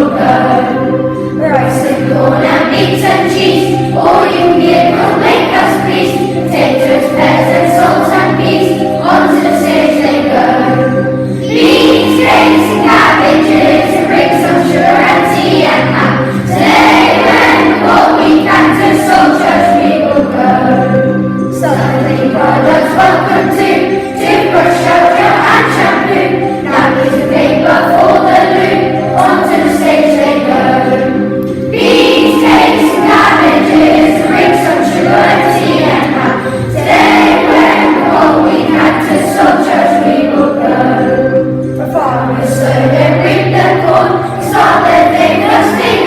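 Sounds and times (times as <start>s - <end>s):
children singing: 0.0s - 46.0s
instrumental backing music: 0.0s - 46.0s.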